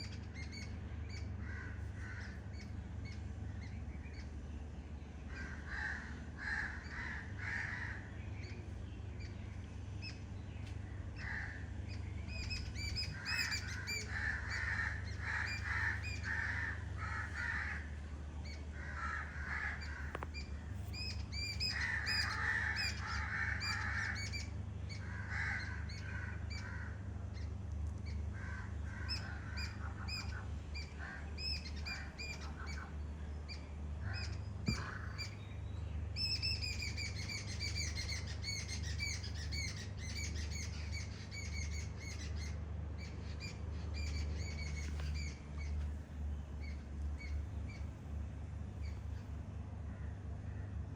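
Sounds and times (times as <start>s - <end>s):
birds chirping: 0.0s - 50.9s
steady low rumble: 0.0s - 50.9s.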